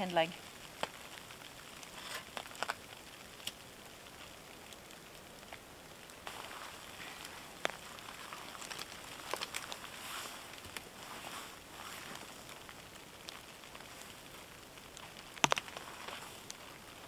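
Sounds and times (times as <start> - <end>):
sleet pattering on a tarp: 0.0 - 17.0.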